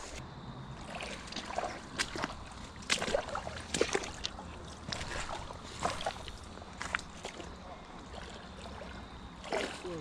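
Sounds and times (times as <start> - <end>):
steady low water rush: 0.0 - 10.0
water sloshing around wading person: 0.0 - 10.0
sharp water splashes: 0.8 - 10.0.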